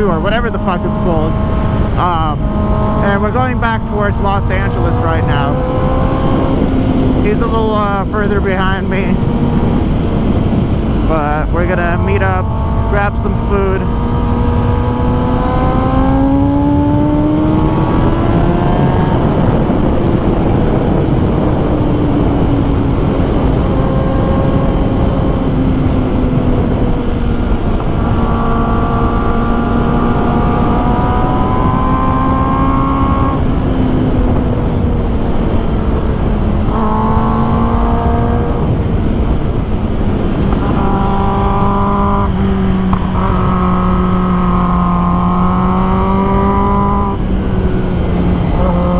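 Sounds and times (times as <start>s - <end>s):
motorcycle engine accelerating: 0.0s - 48.9s
wind noise: 0.0s - 48.9s.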